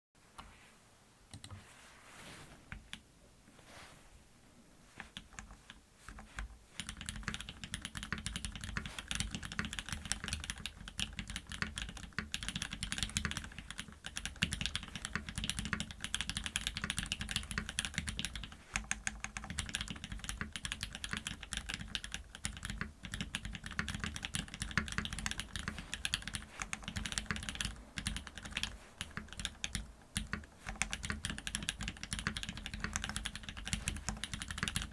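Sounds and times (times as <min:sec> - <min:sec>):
mechanical keyboard typing: 0:05.1 - 0:34.9.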